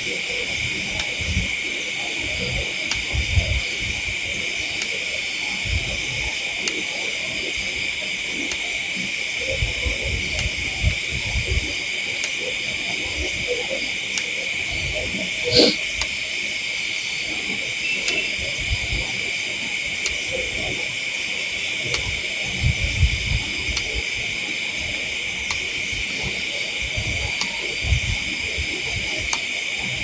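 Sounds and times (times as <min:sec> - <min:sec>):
night insect chorus: 0:00.0 - 0:30.0.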